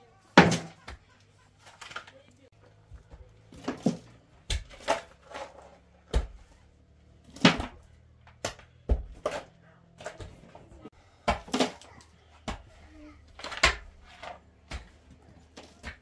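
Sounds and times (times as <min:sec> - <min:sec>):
hard objects knocking and clattering: 0:00.4 - 0:06.5, 0:07.1 - 0:16.0.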